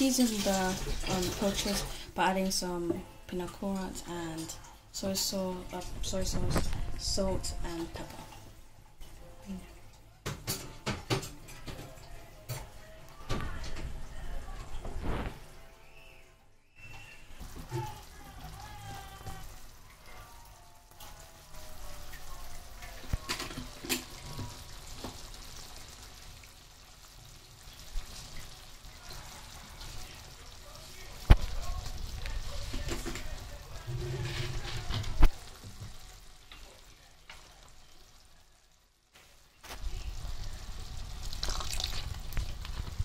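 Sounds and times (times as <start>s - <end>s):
fish sizzling in a pan: 0.0s - 13.4s, 15.0s - 43.0s.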